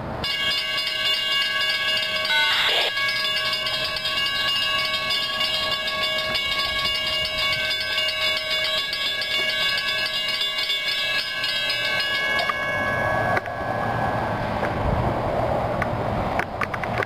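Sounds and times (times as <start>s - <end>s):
train low rumble: 0.0s - 17.0s
train horn ringing tones: 0.2s - 14.6s.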